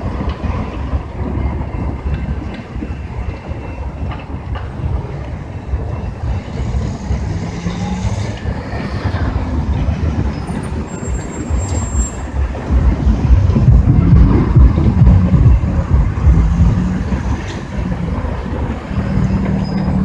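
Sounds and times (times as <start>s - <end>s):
diesel train engine rumbling: 0.0s - 20.0s.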